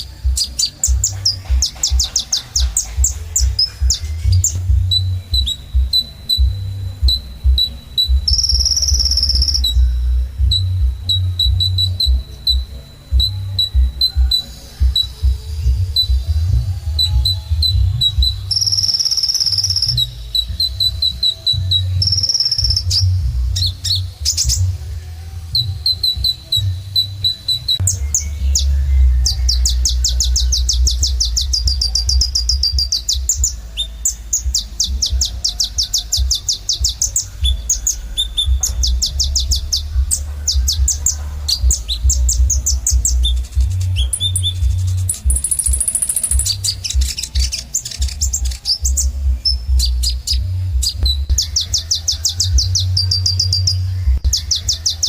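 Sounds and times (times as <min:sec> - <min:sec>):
bird singing chirps and trills: 0:00.0 - 0:55.0
steady low hum: 0:00.0 - 0:55.0.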